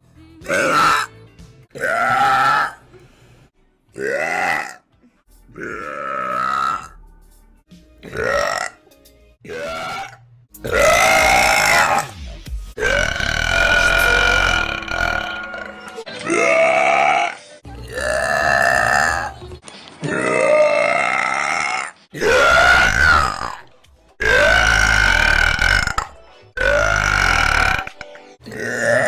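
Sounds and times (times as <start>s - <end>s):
woman burping loudly: 0.4s - 1.1s, 1.7s - 2.9s, 4.0s - 7.0s, 8.0s - 8.8s, 9.4s - 12.1s, 12.8s - 19.4s, 20.0s - 29.0s.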